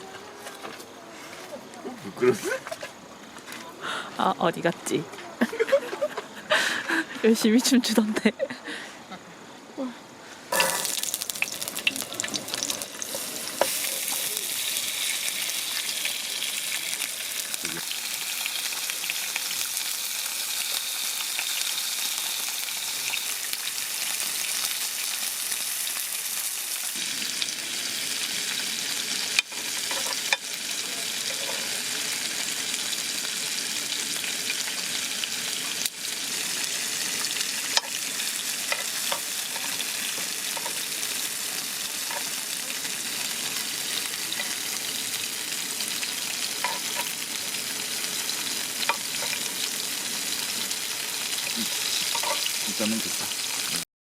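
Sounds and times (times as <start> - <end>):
meat sizzling in a pan: 10.5 - 53.8.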